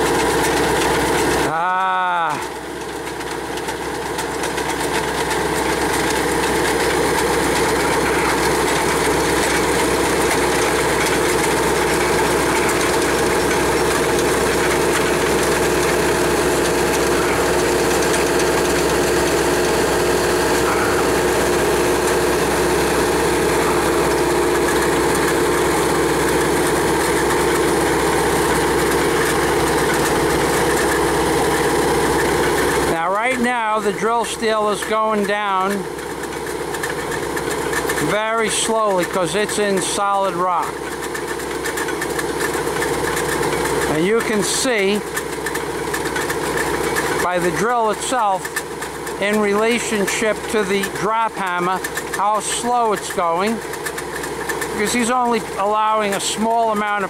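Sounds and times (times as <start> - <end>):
rock drill boring into rock: 0.0 - 57.0.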